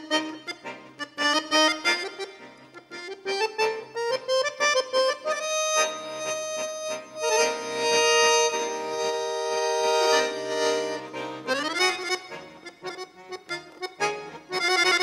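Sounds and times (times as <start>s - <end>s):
button accordion playing: 0.0s - 15.0s.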